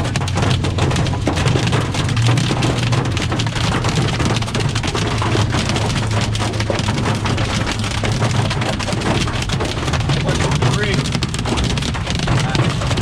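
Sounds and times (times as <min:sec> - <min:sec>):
hail pelting a vehicle: 0:00.0 - 0:13.0.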